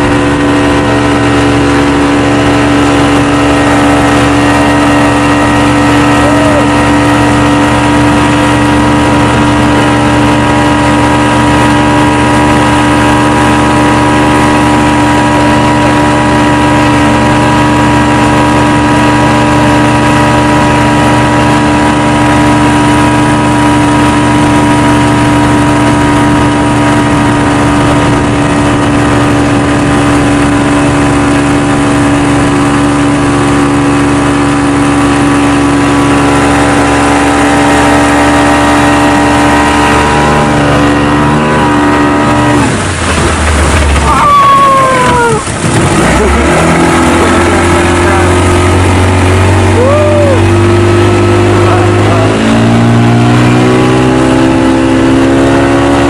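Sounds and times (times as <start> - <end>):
outboard motor running: 0.0 - 56.0
water rushing past hull: 0.0 - 56.0.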